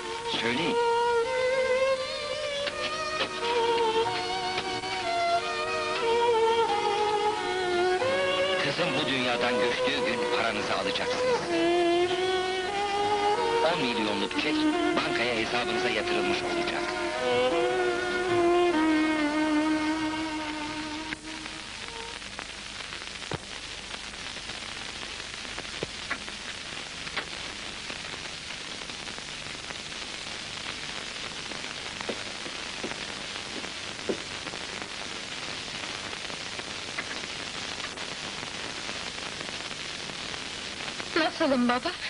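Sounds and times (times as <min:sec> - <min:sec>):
steady hiss: 0:00.0 - 0:42.0
faint clicks and crackles: 0:02.1 - 0:17.0, 0:20.4 - 0:42.0.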